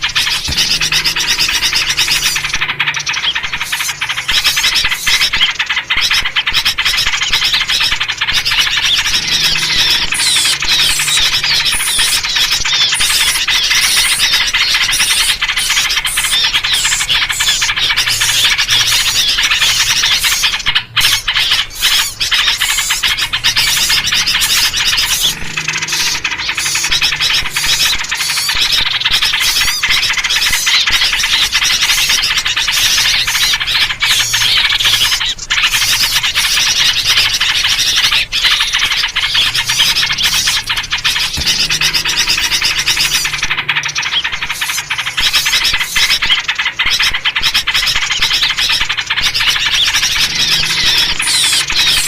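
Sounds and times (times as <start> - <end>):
small birds chattering: 0.0 - 52.0.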